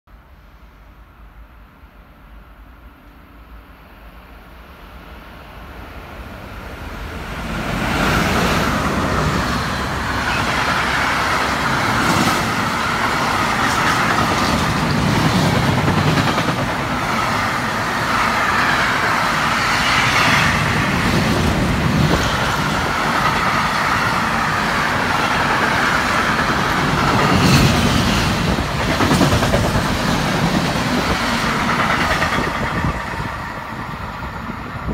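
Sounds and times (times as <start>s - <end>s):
freight train passing: 0.2s - 34.9s.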